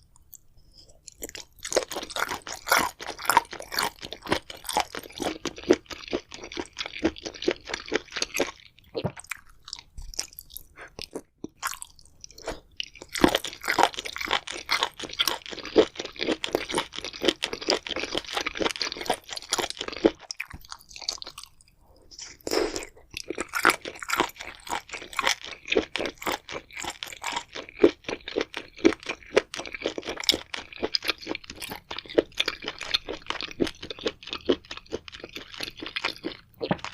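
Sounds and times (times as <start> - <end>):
crunching and chewing food: 0.0 - 36.9.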